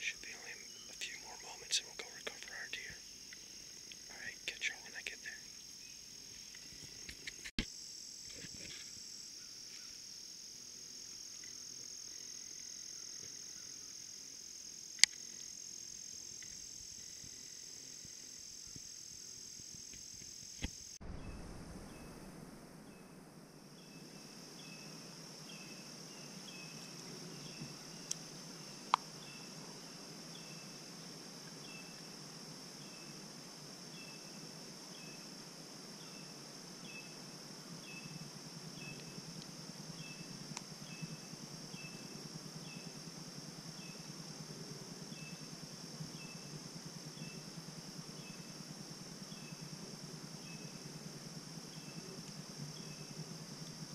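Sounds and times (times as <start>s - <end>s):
insect chorus buzzing and chirping: 0.0s - 53.9s.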